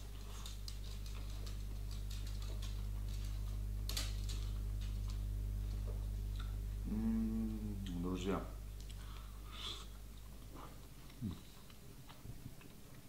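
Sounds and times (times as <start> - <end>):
person chewing food: 0.0 - 8.0, 8.8 - 13.0
low electrical hum: 0.0 - 13.0.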